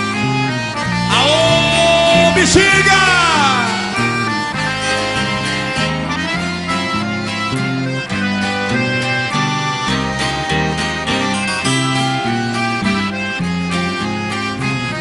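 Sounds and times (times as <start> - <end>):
accordion: 0.0 - 15.0
bass line: 0.0 - 15.0
guitar: 0.0 - 15.0.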